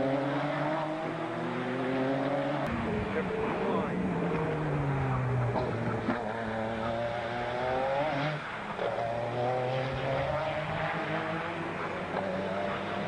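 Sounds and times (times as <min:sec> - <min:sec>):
race car engines running: 0:00.0 - 0:13.0
race car passing close by: 0:00.0 - 0:13.0.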